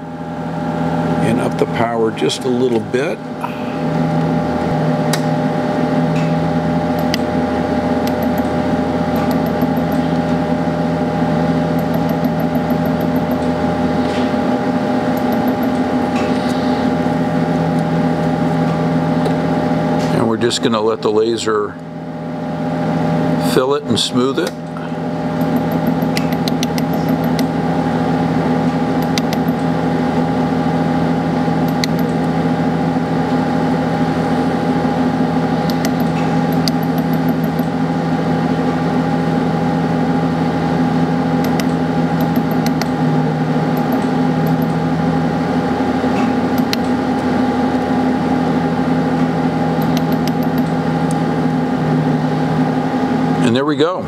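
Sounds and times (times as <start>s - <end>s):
laser welder humming: 0.0s - 53.8s.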